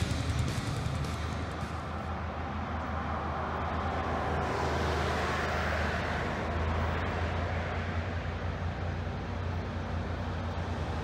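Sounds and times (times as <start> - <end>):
car driving past: 0.0 - 9.1.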